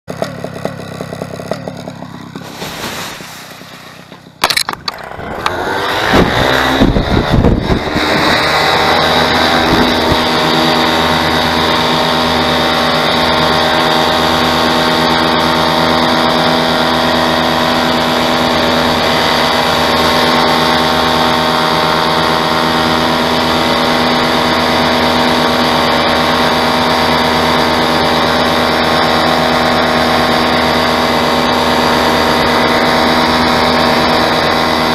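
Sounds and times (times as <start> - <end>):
paramotor engine revving: 0.1 - 34.9.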